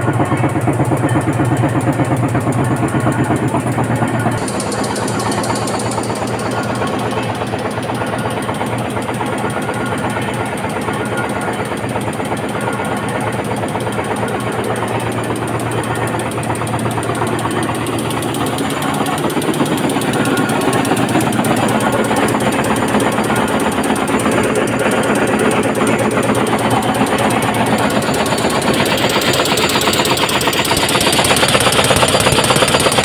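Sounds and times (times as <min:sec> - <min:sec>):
tufting machine clattering: 0:00.0 - 0:33.0.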